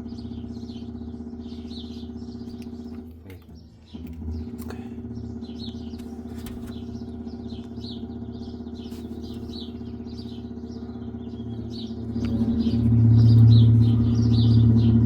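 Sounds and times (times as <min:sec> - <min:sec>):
oil pump humming: 0:00.0 - 0:15.0.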